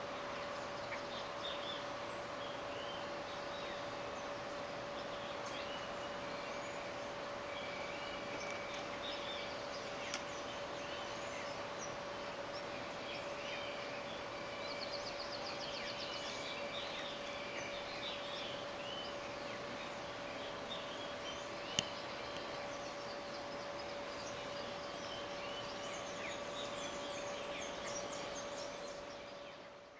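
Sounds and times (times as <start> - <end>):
steady hum: 0.0 - 29.9
birds chirping and calling: 0.4 - 29.9.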